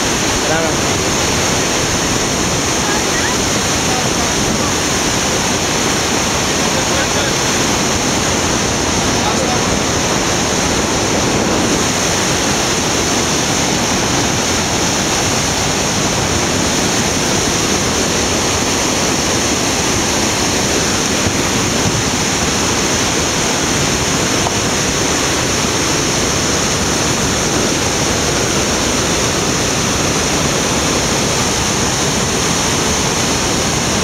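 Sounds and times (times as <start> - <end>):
whitewater rapids rushing: 0.0 - 34.0.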